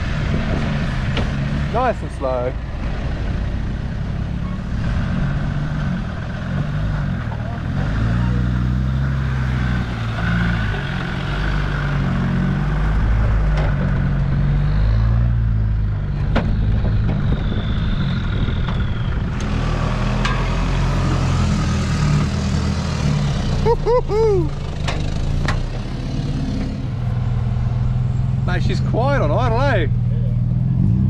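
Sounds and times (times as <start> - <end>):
truck engine running at low revs: 0.0 - 31.0.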